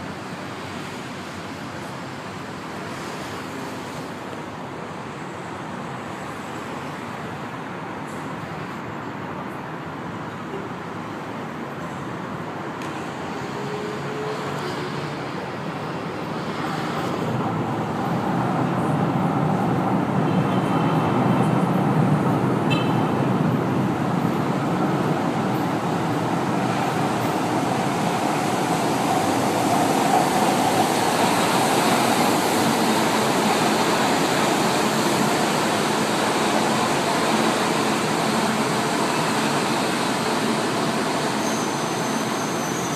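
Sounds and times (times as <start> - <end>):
metro train rumble and rail noise: 0.0 - 42.9.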